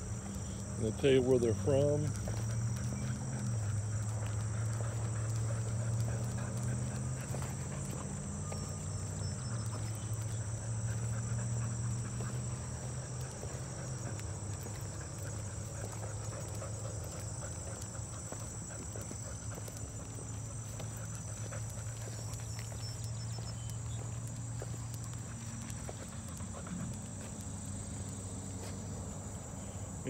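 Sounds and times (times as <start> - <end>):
footsteps on paved path: 0.0 - 30.0
insects chirring: 0.0 - 30.0.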